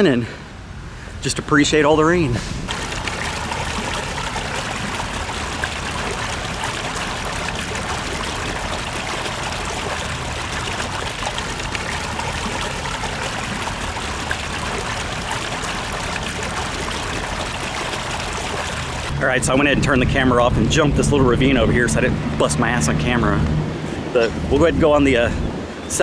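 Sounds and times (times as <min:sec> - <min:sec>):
rainwater runoff rushing: 0:01.6 - 0:25.3.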